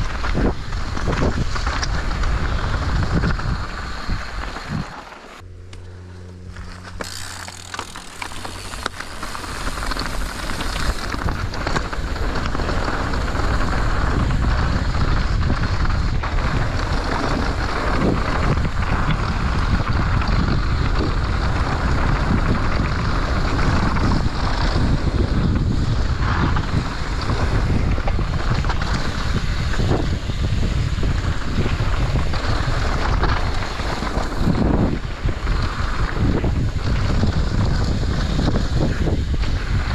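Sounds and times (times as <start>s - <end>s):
wind buffeting microphone: 0.0s - 5.0s, 7.0s - 39.9s
bike rattling over bumps: 0.0s - 39.9s
bike tyres rolling on dirt: 0.0s - 39.9s
low hum: 0.6s - 36.1s.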